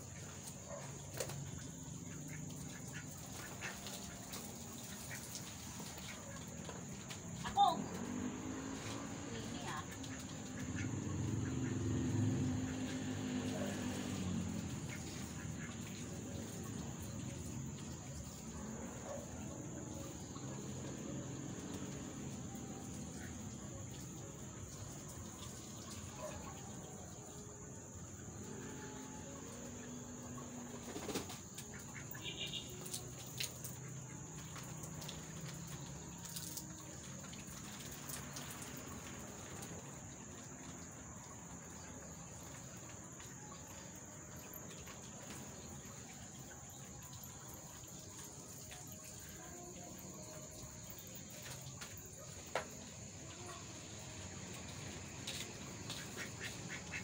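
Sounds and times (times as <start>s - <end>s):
water spattering on leaves: 0.0s - 28.7s, 29.5s - 57.0s.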